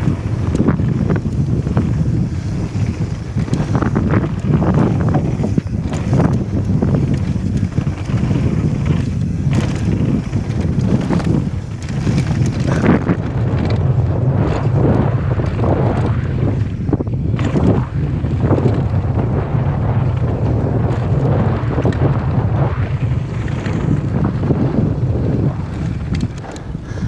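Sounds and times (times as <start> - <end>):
bike knocks and rattles: 0.0 - 27.0
wind noise on microphone: 0.0 - 27.0.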